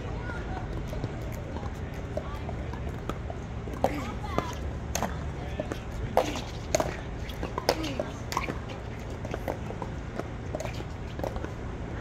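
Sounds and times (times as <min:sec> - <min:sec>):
faint voices: 0:00.0 - 0:12.0
paddles striking balls: 0:00.3 - 0:11.6.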